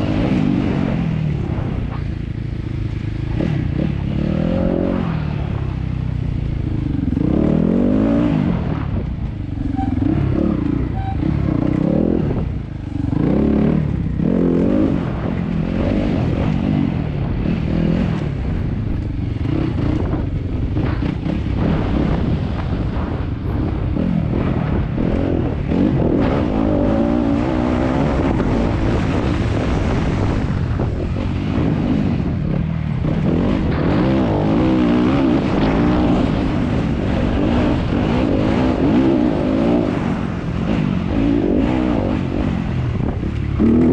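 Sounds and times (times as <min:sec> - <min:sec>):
motorcycle engine running hard: 0:00.0 - 0:43.9.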